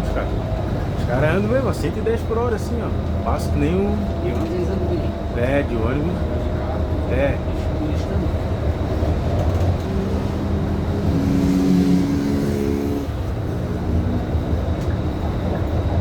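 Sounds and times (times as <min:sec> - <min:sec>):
bus engine and road rumble: 0:00.0 - 0:16.0
pitched hum: 0:02.8 - 0:16.0.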